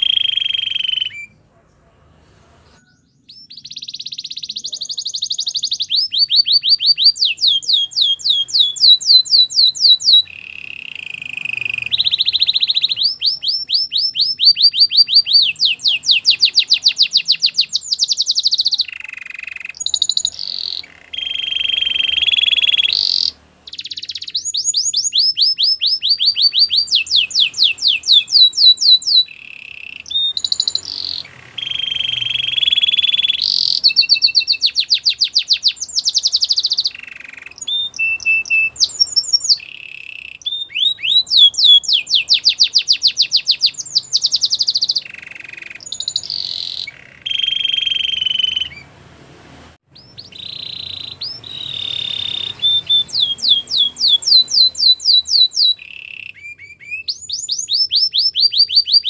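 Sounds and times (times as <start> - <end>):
canary singing trills: 0.0 - 49.0, 49.9 - 59.0.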